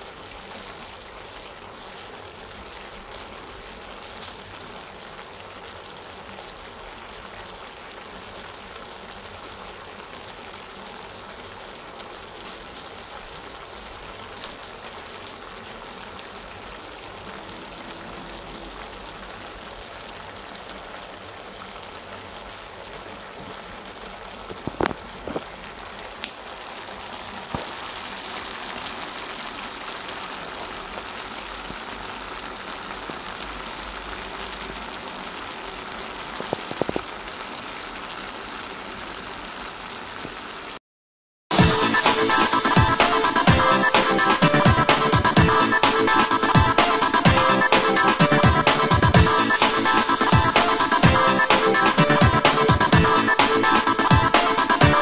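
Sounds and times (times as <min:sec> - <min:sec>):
stir-fry sizzling in pan: 0:00.0 - 0:40.8, 0:41.5 - 0:55.0.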